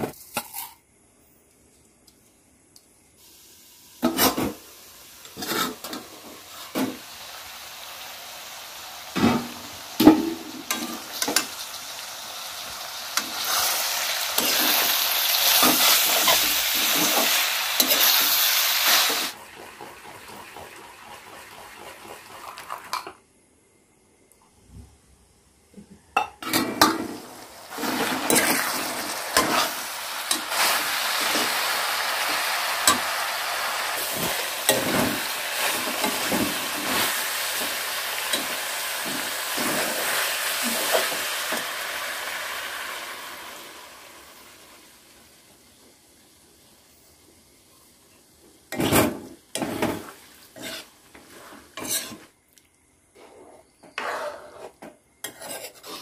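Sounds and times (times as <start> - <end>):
food sizzling in a wok: 3.2 - 23.1, 26.4 - 52.4, 54.0 - 56.0.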